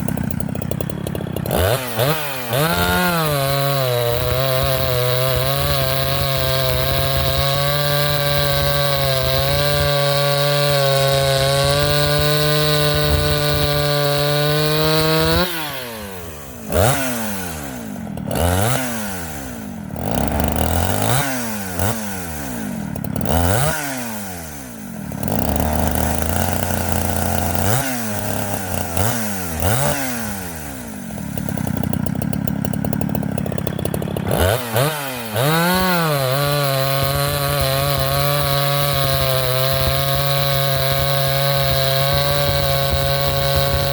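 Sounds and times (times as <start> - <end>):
chainsaw cutting at full throttle: 0.0 - 43.9
chainsaw engine revving: 0.0 - 43.9.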